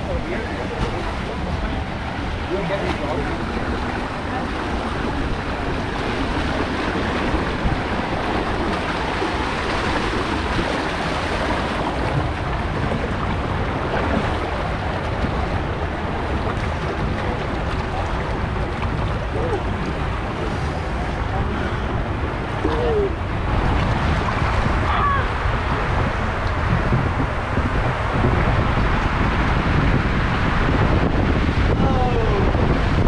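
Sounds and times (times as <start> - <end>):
water gushing into pool: 0.0 - 30.6
water splashing around raft: 0.0 - 33.0.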